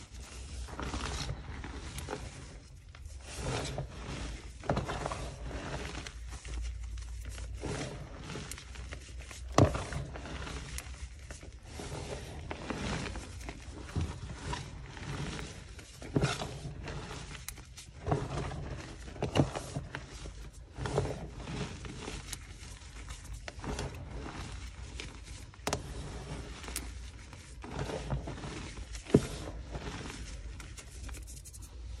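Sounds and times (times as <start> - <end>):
chalk powder crunching: 0.0 - 32.0.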